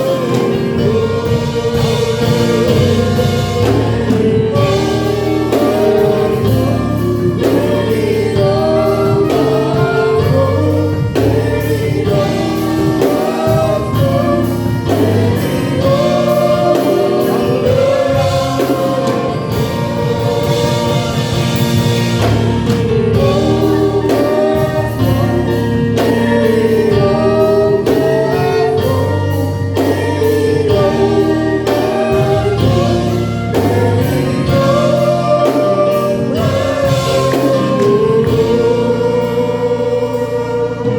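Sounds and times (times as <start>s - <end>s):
band accompaniment with bass: 0.0s - 40.9s
gospel choir singing: 0.0s - 40.9s.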